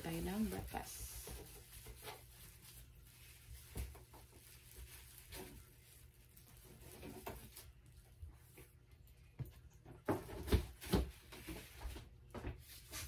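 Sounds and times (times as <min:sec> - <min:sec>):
faint knocks and rustles: 0:00.0 - 0:13.0.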